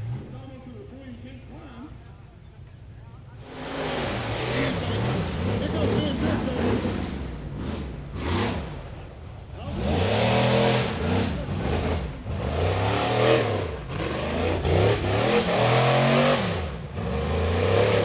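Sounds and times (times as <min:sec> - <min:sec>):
buggy engine revving: 0:00.0 - 0:00.7, 0:03.4 - 0:18.0.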